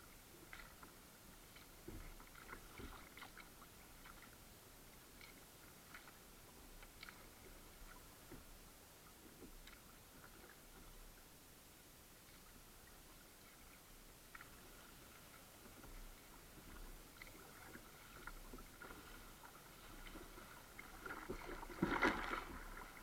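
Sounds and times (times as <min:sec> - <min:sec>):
kayak clicks and soft knocks: 0:00.0 - 0:11.4, 0:12.1 - 0:23.0.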